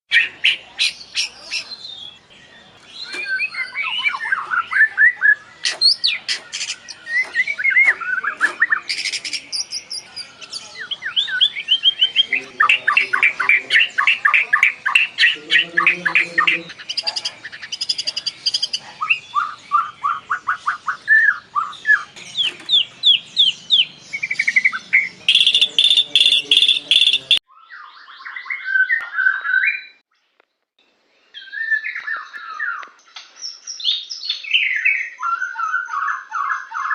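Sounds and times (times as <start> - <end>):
bird singing whistled trills: 0.1 - 30.0, 31.3 - 36.9.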